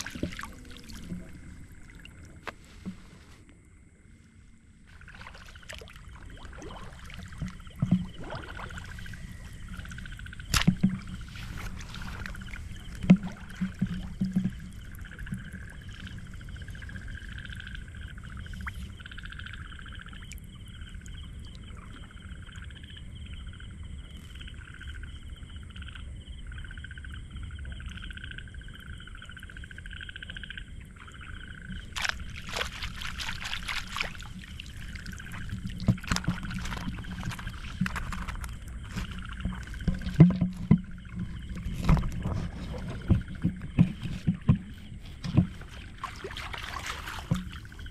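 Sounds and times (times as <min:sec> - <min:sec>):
frogs calling: 0:00.0 - 0:03.0, 0:03.6 - 0:47.9.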